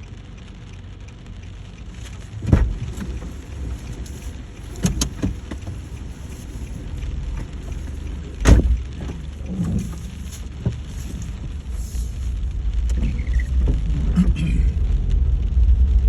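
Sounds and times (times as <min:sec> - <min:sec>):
rain ambience low rumble: 0:00.0 - 0:16.0.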